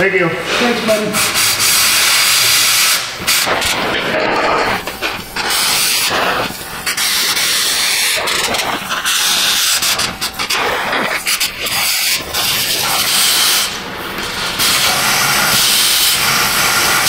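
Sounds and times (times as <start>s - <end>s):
torch flame hissing: 0.4s - 17.0s.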